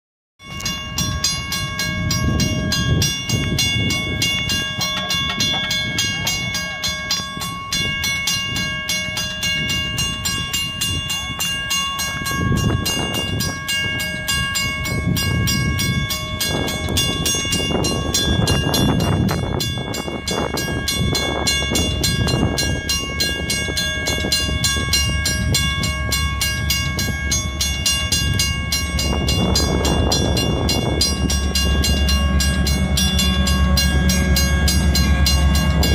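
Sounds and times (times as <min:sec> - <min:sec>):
crossing warning bell ringing: 0:00.4 - 0:35.9.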